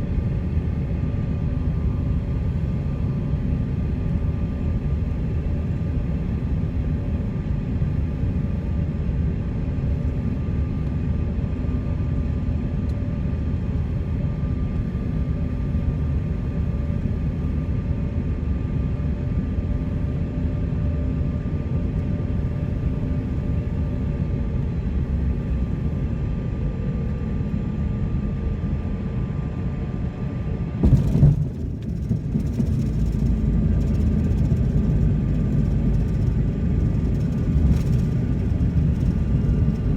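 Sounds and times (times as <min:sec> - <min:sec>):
jet engines and airflow rumble: 0:00.0 - 0:39.9.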